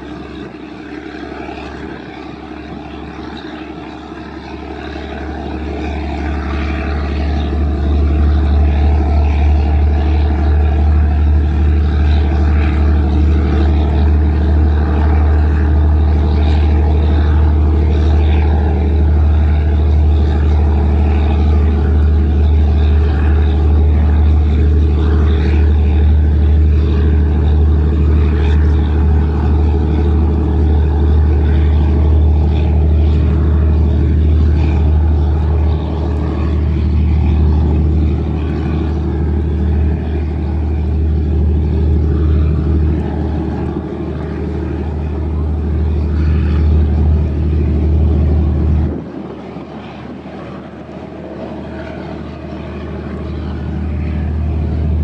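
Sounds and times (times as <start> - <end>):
ferry engines droning: 0.0 - 55.0
water rushing: 0.0 - 55.0.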